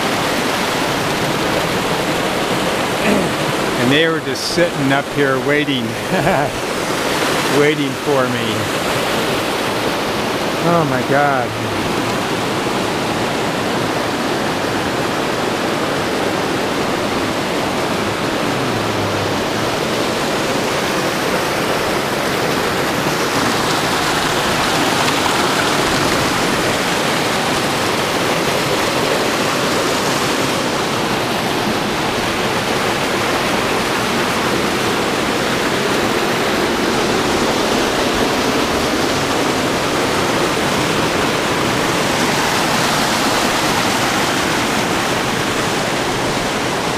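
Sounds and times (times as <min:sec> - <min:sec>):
creek rushing over boulders: 0:00.0 - 0:46.9.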